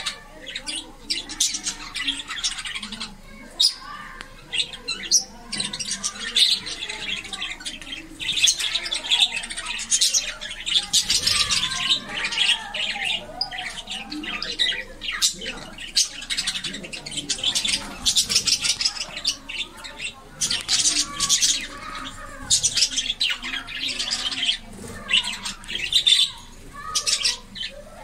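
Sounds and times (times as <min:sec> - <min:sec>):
budgerigars chattering: 0:00.0 - 0:28.0.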